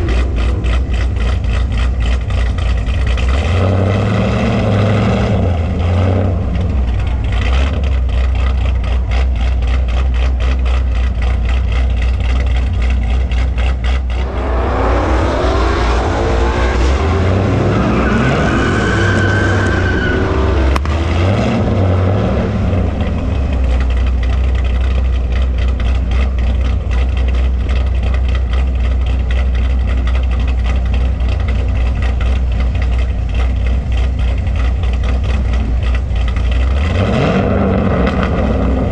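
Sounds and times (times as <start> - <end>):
car accelerating hard: 0.0 - 38.9
car engine idling: 0.0 - 38.9.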